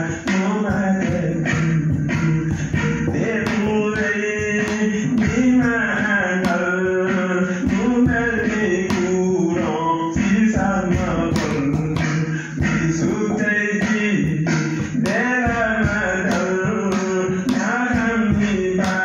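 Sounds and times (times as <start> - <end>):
song with singing and beat: 0.0 - 19.0.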